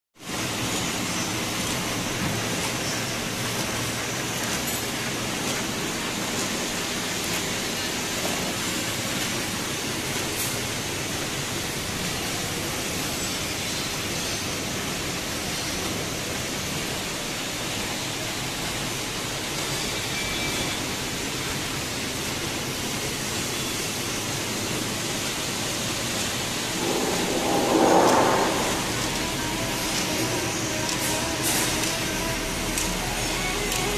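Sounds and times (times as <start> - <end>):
conveyor motor and belt running: 0.2 - 33.9.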